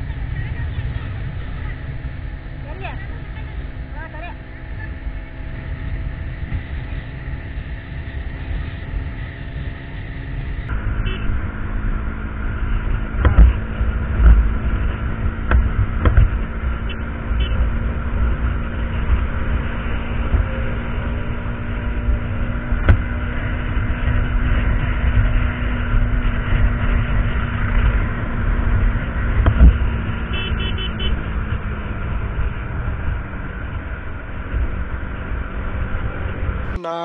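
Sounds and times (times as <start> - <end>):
wind rumble on microphone: 0.0 - 30.3
motorcycle engine cruising: 0.0 - 37.0.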